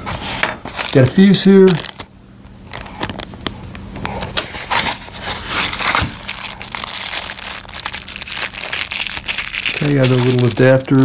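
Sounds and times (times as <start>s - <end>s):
plastic bag crinkling: 0.7s - 3.8s, 4.4s - 11.0s.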